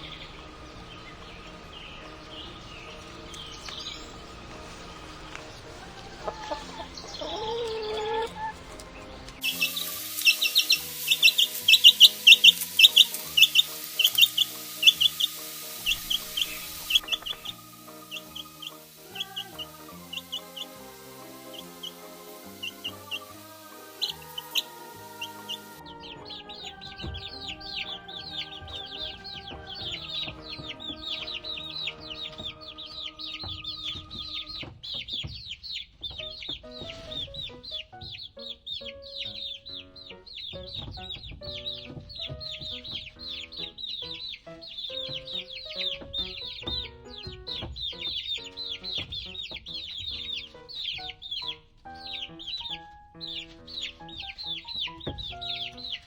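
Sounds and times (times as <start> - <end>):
background music: 0.0 - 56.0
chickens clucking: 0.0 - 56.0
chicks peeping: 0.0 - 56.0.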